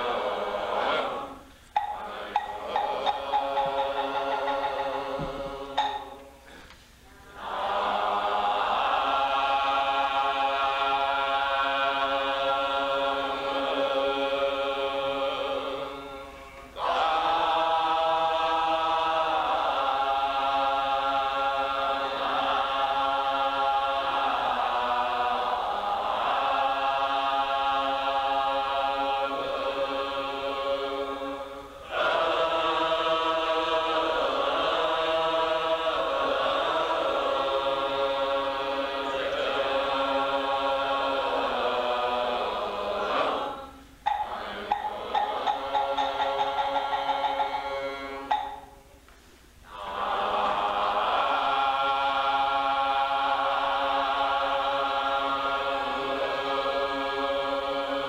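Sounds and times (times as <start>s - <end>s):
group of voices chanting: 0.0s - 6.3s, 7.1s - 48.6s, 49.7s - 58.0s.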